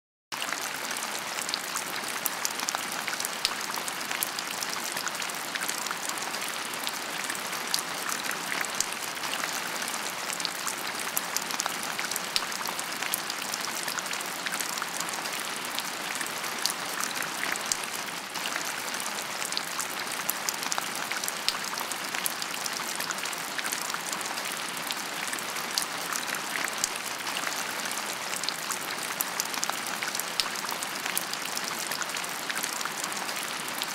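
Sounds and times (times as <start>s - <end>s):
steady rain with drop ticks: 0.3s - 33.9s.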